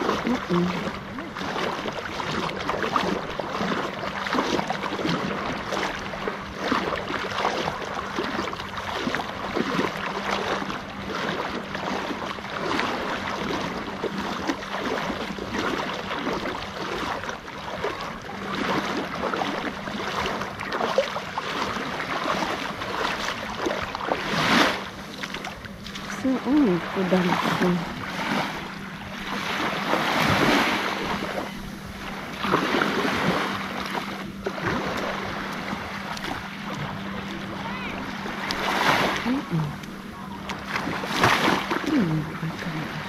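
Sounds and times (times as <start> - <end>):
small sea waves splashing: 0.0 - 43.0.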